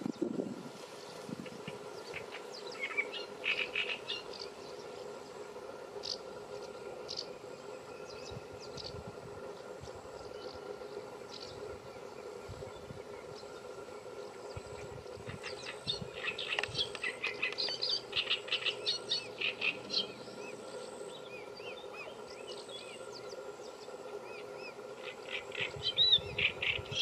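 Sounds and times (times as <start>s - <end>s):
outdoor background noise: 0.0s - 27.0s
steady low hum: 0.0s - 27.0s.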